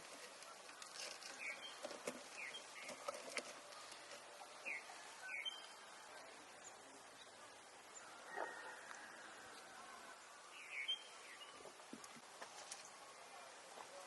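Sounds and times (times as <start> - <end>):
birds chirping: 0.0 - 13.6
steady low hiss: 0.0 - 14.0.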